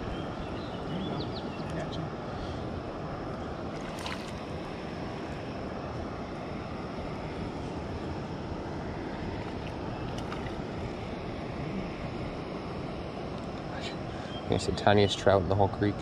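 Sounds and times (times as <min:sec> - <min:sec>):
flowing creek water: 0:00.0 - 0:15.6.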